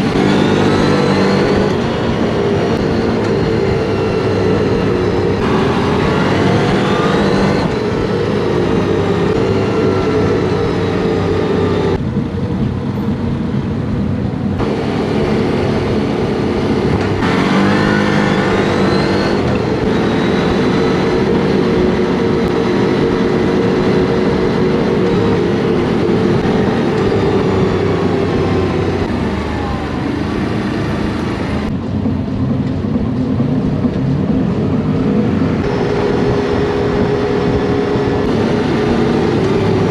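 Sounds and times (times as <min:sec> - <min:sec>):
quad engine accelerating: 0:00.0 - 0:39.9.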